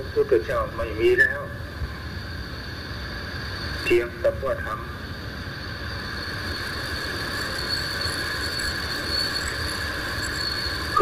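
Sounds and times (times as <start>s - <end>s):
shrill insect chorus: 0.0s - 11.0s.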